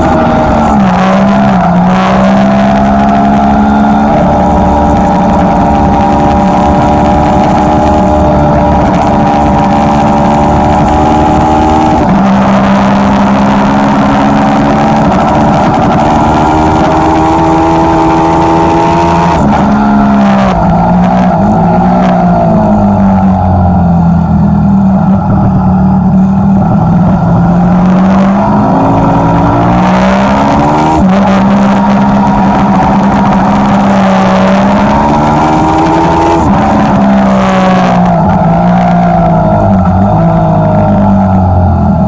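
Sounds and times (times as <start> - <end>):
motorcycle engine running hard: 0.0 - 42.0.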